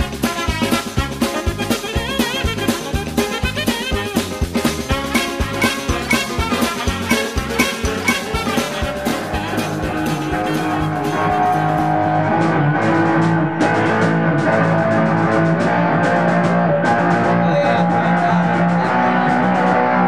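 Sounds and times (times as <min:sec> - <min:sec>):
rock music with guitar: 0:00.0 - 0:20.0.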